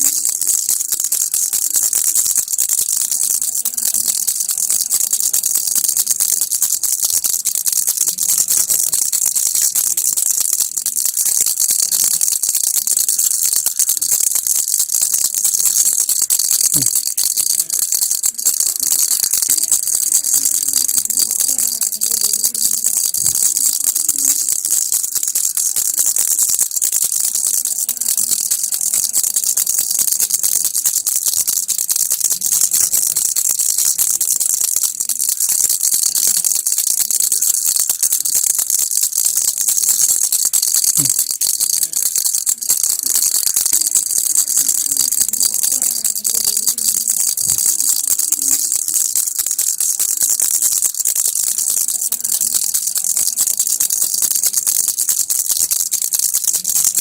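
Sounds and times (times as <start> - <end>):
baby rattle shaken: 0.0 - 57.0.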